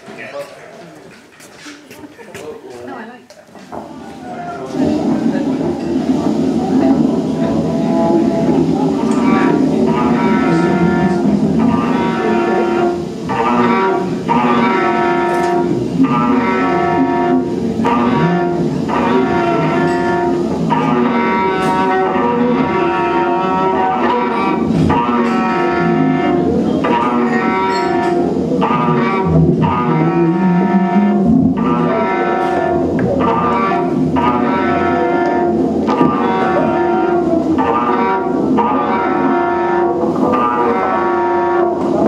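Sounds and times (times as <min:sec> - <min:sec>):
stuttering electronic drone: 0:04.8 - 0:42.0.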